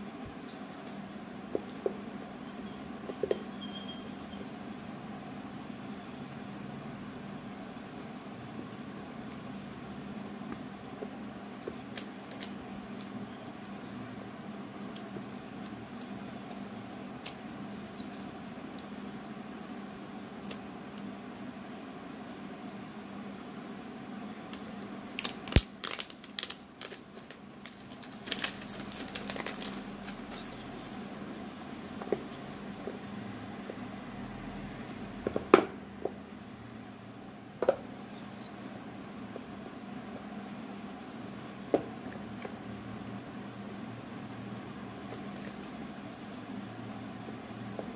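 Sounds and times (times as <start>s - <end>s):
low background hum: 0.0s - 47.9s.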